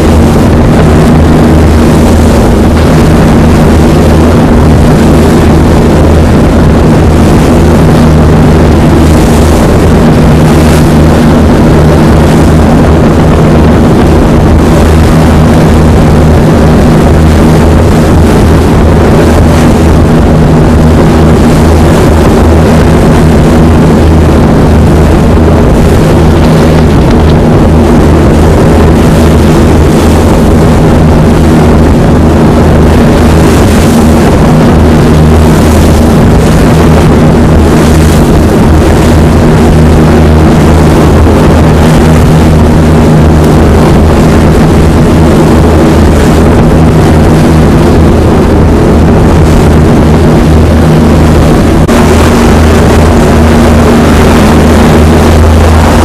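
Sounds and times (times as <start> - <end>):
boat diesel engines droning: 0.0 - 56.0
wind and sea hiss: 0.0 - 56.0.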